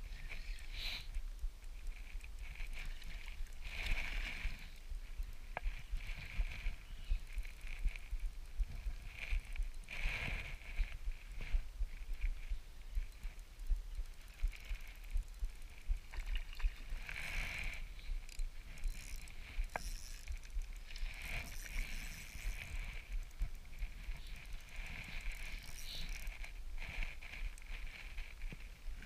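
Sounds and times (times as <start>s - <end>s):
fishing reel whirring: 0.0s - 28.5s
constant low rumble: 0.0s - 29.0s.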